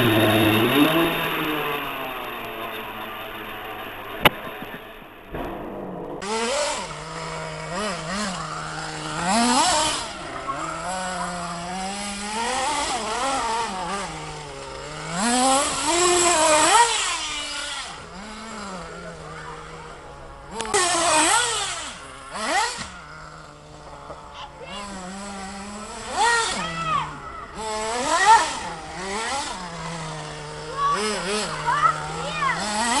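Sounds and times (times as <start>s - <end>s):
model car engine revving: 0.0s - 5.2s, 6.2s - 33.0s.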